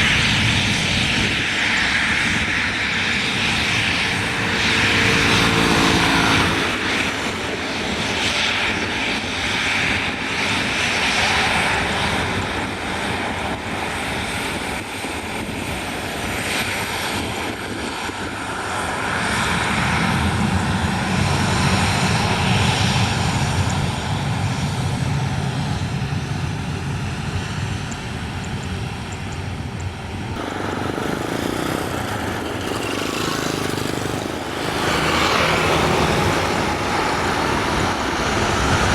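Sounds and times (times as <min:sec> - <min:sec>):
airliner engines running: 0:00.0 - 0:38.9.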